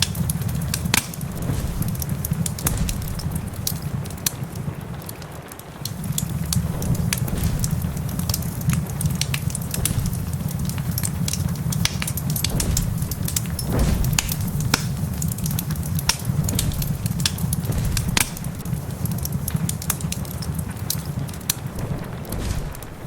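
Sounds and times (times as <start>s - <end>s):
steady low rumble: 0.0s - 5.2s, 5.8s - 23.0s
log fire crackling and popping: 0.0s - 23.0s.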